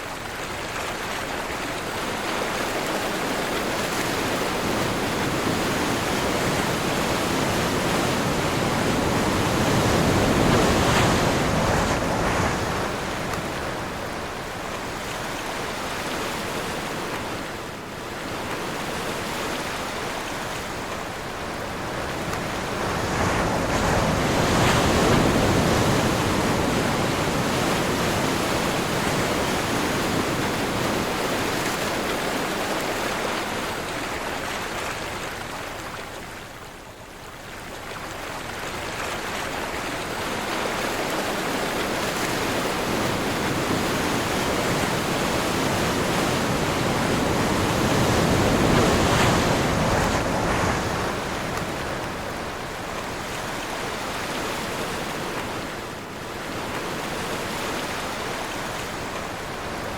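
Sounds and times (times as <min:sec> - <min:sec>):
ocean surf waves washing in: 0:00.0 - 0:59.9.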